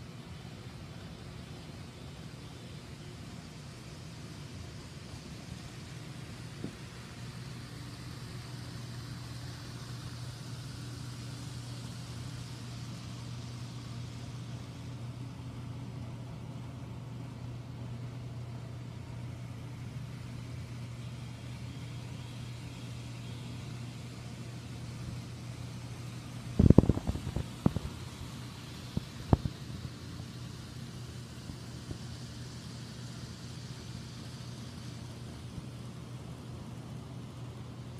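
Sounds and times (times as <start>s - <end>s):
model train humming: 0.0s - 17.0s, 17.7s - 37.7s
faint whir: 0.0s - 37.9s.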